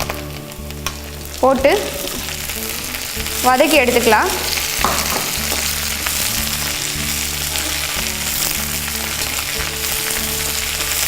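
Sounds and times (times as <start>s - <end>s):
background music low notes: 0.0s - 11.0s
leaves sizzling in hot oil: 0.0s - 11.0s.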